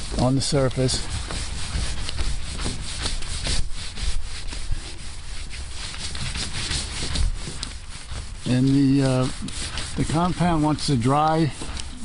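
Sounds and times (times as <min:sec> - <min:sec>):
cloth rubbing painted metal: 0:00.0 - 0:12.0.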